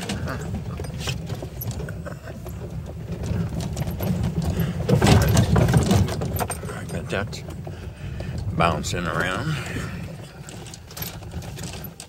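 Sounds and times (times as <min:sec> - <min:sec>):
golf cart rumbling: 0:00.0 - 0:12.0
rattling knocks: 0:00.0 - 0:12.0.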